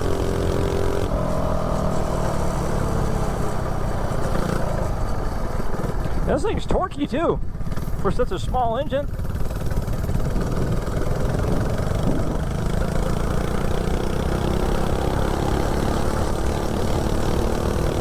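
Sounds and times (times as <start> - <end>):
small engine running on mini bike: 0.0 - 6.8, 7.4 - 18.0.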